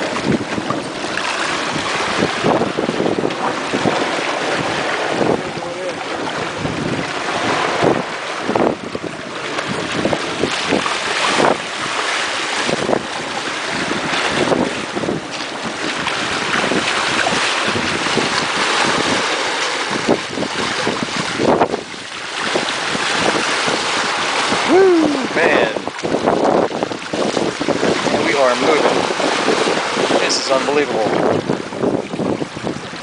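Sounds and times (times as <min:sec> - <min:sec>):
water rushing along boat hull: 0:00.0 - 0:33.0
wind buffeting microphone: 0:00.0 - 0:33.0.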